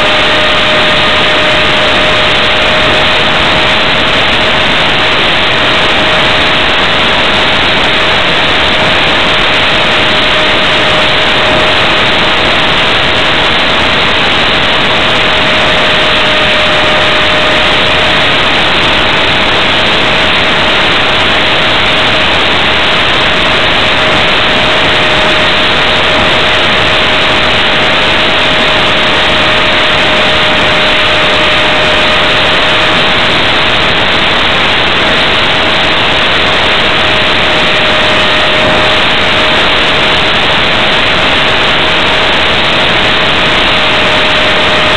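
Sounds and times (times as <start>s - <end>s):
electric motor whine: 0.0s - 44.9s
wind rush over microphone: 0.0s - 44.9s.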